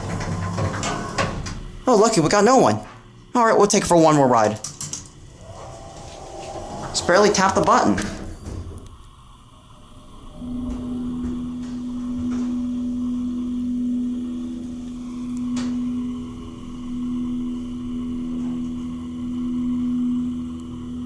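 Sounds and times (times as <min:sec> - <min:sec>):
elevator pump motor humming: 0:00.0 - 0:21.0.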